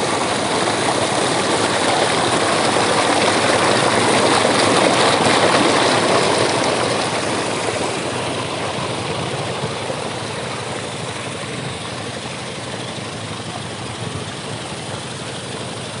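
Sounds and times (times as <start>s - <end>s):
dredge engine running: 0.0s - 16.0s.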